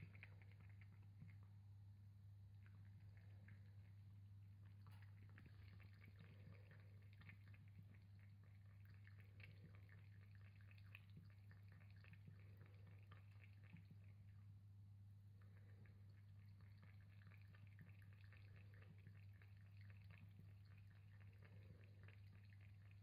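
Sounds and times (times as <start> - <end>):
cat lapping water: 0.0 - 23.0
steady low hum: 0.0 - 23.0.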